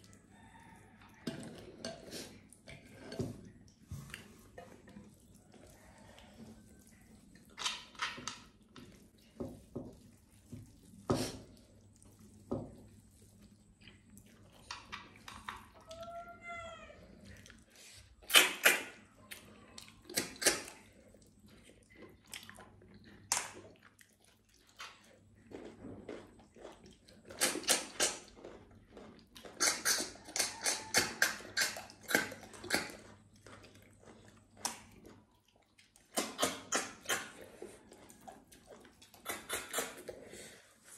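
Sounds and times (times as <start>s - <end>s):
chewing: 0.0s - 16.2s, 17.0s - 40.9s
wet slurping: 1.4s - 15.8s, 17.0s - 25.3s, 26.4s - 40.9s.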